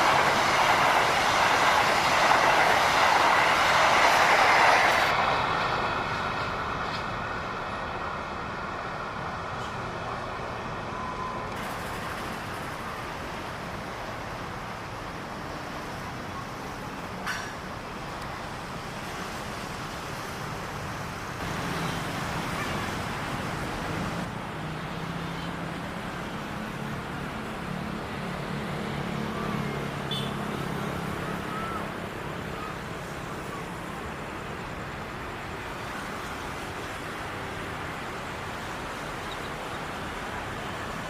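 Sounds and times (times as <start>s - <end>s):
traffic rumble: 0.0s - 41.0s.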